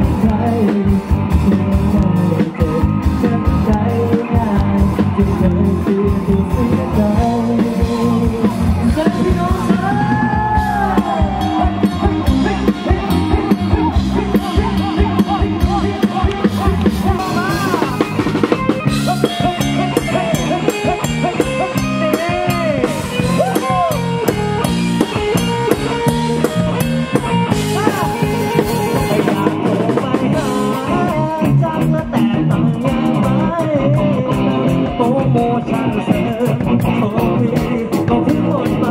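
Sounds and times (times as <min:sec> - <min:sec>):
drum kit beat: 0:00.0 - 0:38.9
electric guitar: 0:00.0 - 0:38.9
person singing: 0:00.0 - 0:38.9.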